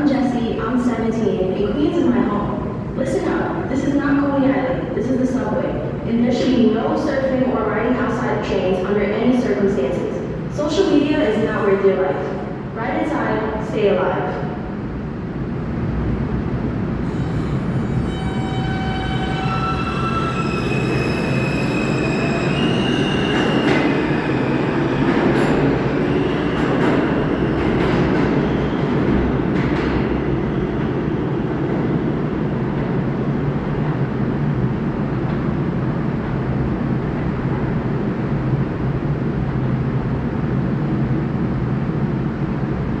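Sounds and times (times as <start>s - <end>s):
subway train rumbling: 0.0s - 43.0s.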